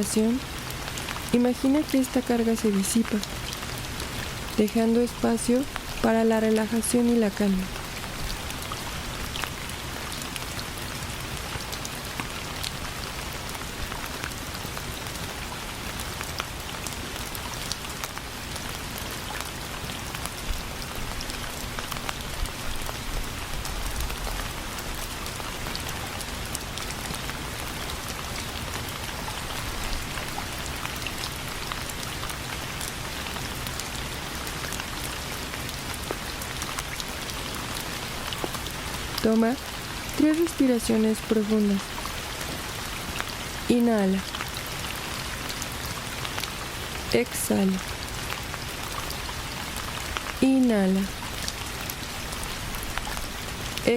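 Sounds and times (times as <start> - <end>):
rain falling on a surface: 0.0 - 53.9.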